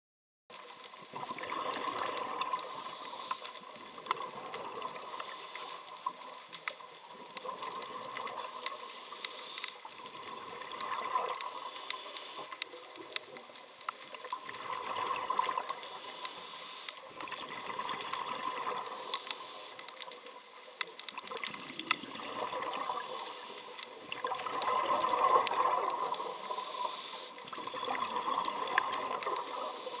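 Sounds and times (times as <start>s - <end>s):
water sloshing and bubbling: 0.5s - 30.0s.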